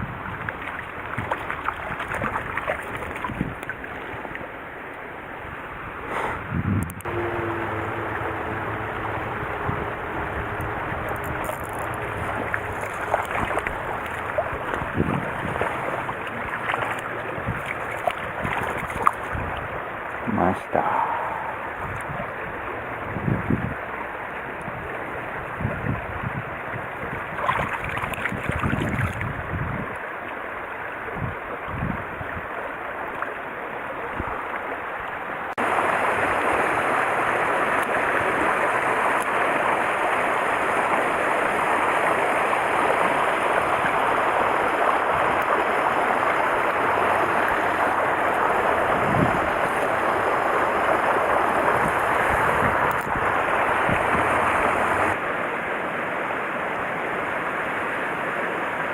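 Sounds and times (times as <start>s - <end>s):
stream water rushing: 0.0s - 58.9s.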